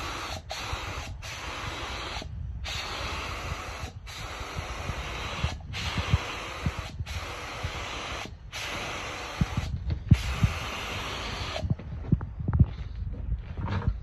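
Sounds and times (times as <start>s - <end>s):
spray gun hissing: 0.0s - 11.6s.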